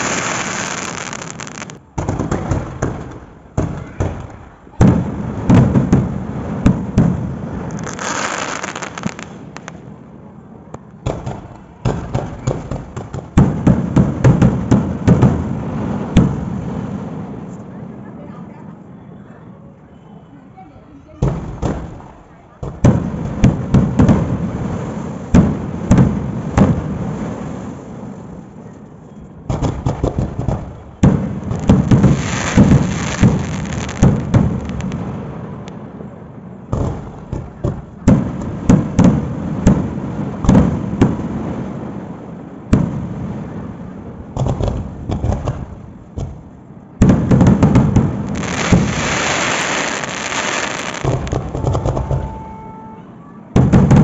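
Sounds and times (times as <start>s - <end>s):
deep fireworks rumble: 0.0s - 18.9s, 21.2s - 52.6s, 53.6s - 54.0s
fireworks bangs and crackles: 0.0s - 19.0s, 21.0s - 52.7s, 53.6s - 54.0s.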